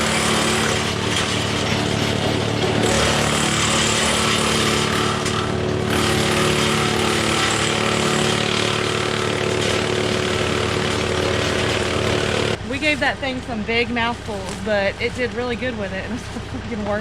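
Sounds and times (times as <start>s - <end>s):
tractor engine drone: 0.0s - 17.0s
wood chipper grinding: 0.0s - 17.0s.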